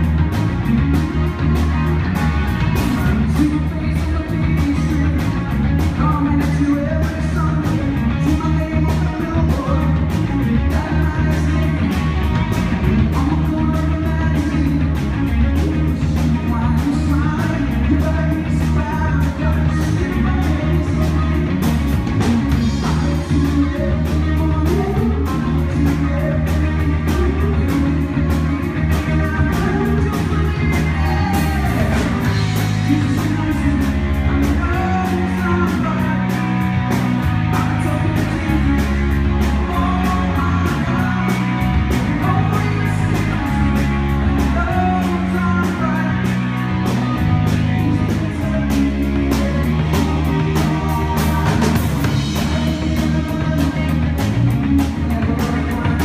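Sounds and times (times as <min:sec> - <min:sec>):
bass line: 0:00.0 - 0:56.0
drum kit steady beat: 0:00.0 - 0:56.0
electric guitar: 0:00.0 - 0:56.0.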